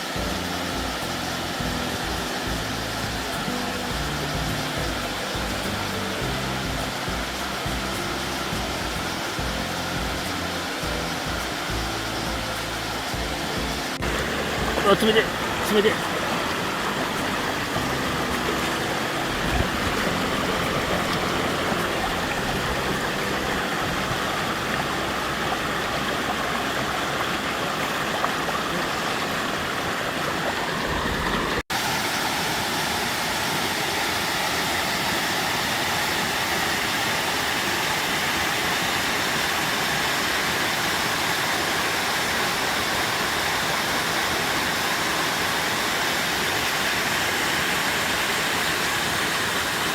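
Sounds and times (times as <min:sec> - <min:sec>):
waterfall rushing and splashing: 0:00.0 - 0:49.9.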